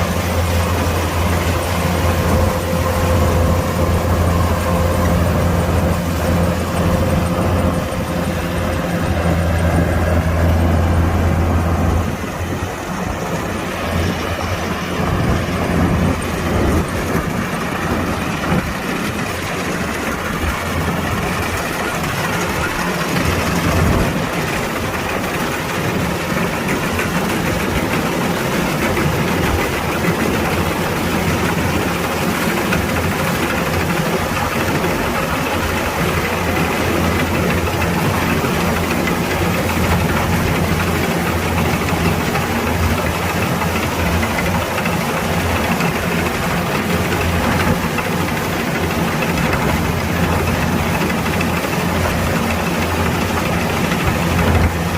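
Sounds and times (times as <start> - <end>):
combine harvester engine droning: 0.0 - 54.9
dense mechanical rush: 0.0 - 54.9.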